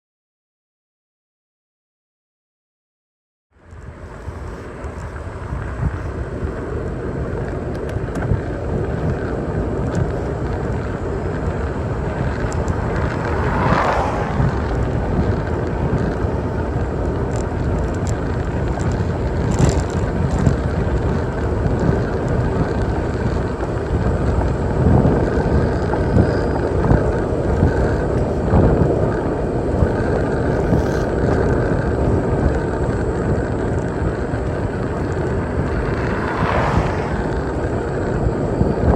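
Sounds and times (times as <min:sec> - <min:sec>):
bicycle tyres on paved road: 0:03.5 - 0:38.9
wind rushing over microphone: 0:03.6 - 0:38.9.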